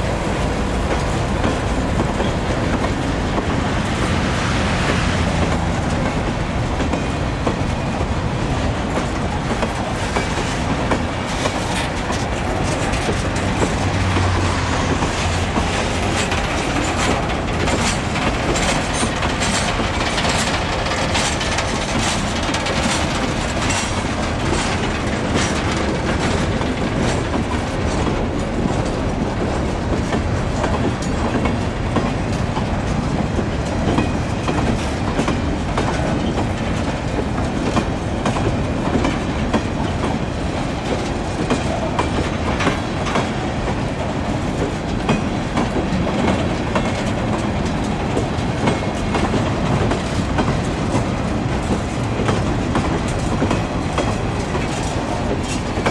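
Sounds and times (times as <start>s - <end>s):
freight train rumbling past: 0.0s - 55.9s
wheels clacking over rail joints: 0.0s - 55.9s.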